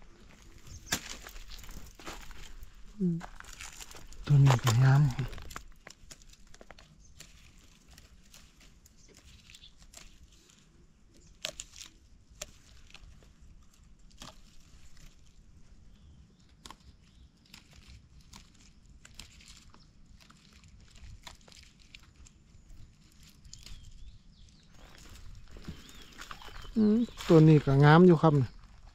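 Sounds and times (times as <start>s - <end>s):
rustling of plants: 0.0s - 28.9s
dry leaf litter crackling: 0.2s - 16.1s, 17.0s - 28.9s.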